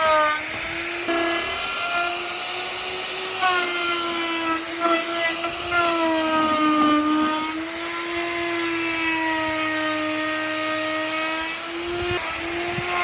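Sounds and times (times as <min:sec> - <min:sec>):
electric power tool motor whining: 0:00.0 - 0:13.0.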